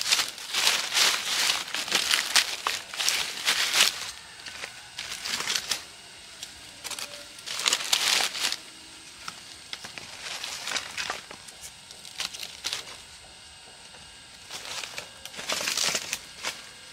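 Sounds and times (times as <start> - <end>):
dry leaves rustling: 0.0 - 16.9.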